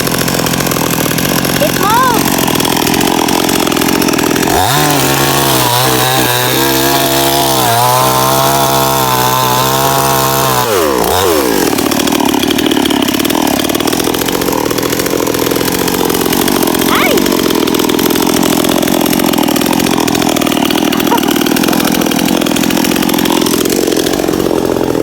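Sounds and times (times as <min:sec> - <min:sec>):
chainsaw cutting wood: 0:00.0 - 0:25.0
chainsaw idling: 0:00.0 - 0:25.0.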